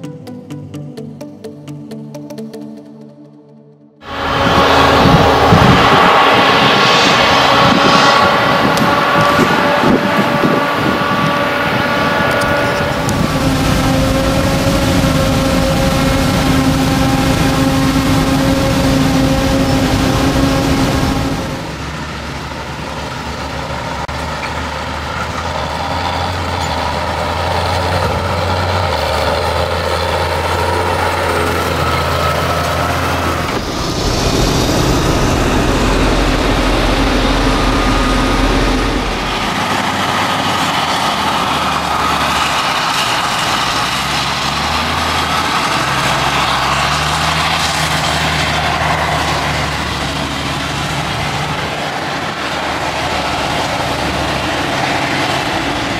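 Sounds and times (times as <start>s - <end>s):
heavy diesel engines under load: 4.0s - 55.9s.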